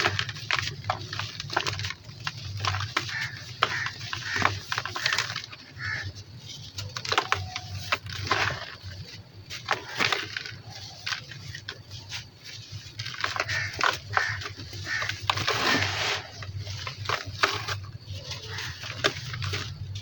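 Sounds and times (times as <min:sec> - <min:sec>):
sand crunching and crackling: 0:00.0 - 0:20.0.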